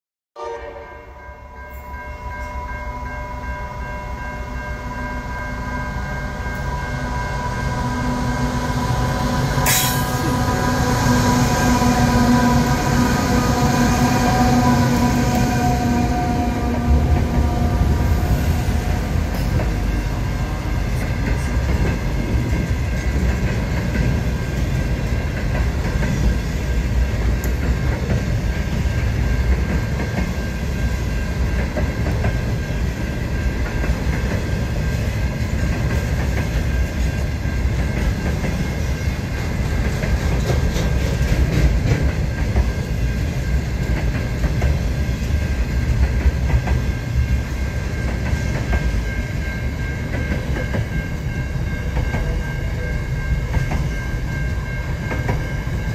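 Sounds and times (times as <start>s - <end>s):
freight train passing: 0.4s - 55.9s
wheels clattering on rails: 8.7s - 55.9s.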